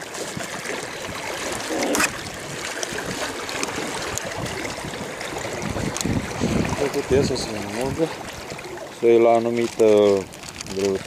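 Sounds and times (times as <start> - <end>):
oar splashing in water: 0.0 - 11.0
water sloshing against boat: 0.0 - 11.0.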